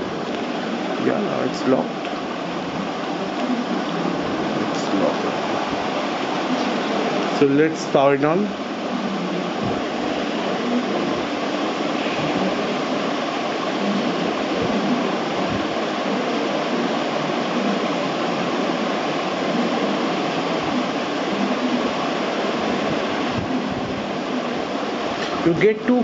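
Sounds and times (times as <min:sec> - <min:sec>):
room ventilation rushing: 0:00.0 - 0:26.0.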